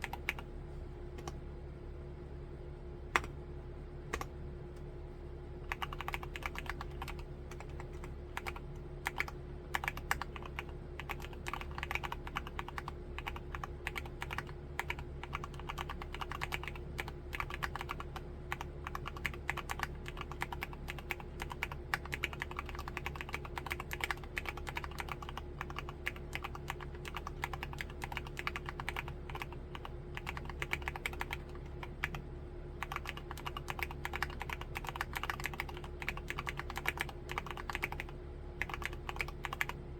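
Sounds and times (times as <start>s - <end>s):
fast typing on mechanical keyboard: 0.0s - 0.5s, 5.7s - 32.2s, 32.8s - 39.8s.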